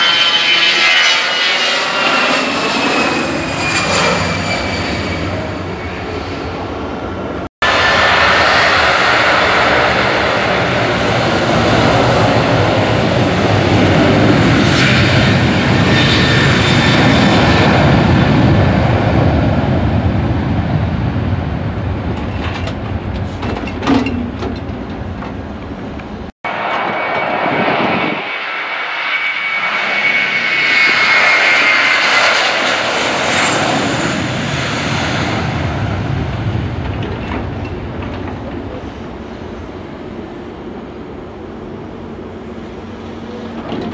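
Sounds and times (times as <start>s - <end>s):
jet engines at takeoff power: 0.0s - 43.9s.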